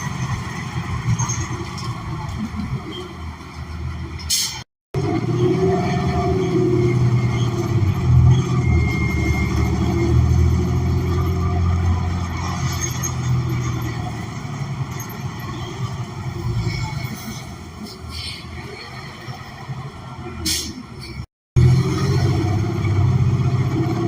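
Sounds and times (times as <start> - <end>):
bus engine low rumble: 0.0 - 24.0.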